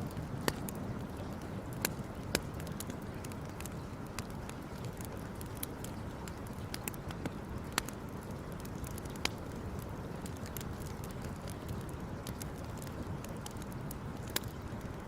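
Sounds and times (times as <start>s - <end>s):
wood campfire crackling: 0.0s - 15.0s.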